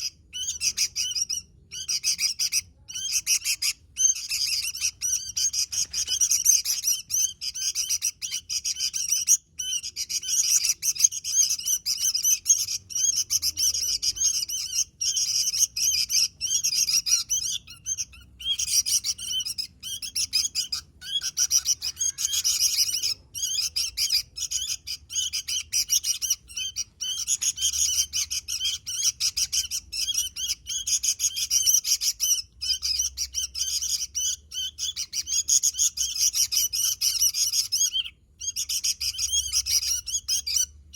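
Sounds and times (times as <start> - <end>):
bulbul chirping and twittering: 0.0 - 40.9.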